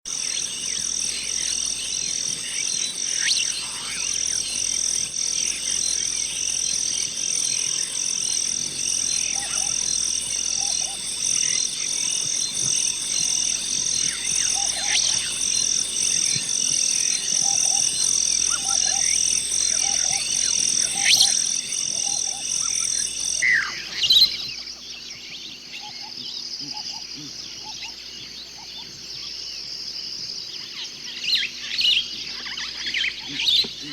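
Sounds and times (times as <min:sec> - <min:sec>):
bird chirps: 0:00.1 - 0:29.3
low croaking calls: 0:00.1 - 0:29.6, 0:30.4 - 0:33.9
crickets chirping: 0:00.1 - 0:33.9
insect trill: 0:00.1 - 0:33.9.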